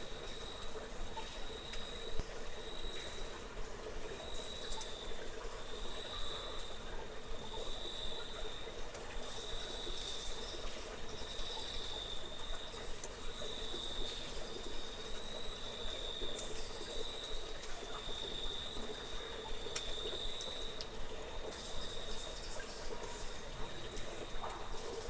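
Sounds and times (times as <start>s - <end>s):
cricket chirping: 0.0s - 3.4s, 4.0s - 25.0s.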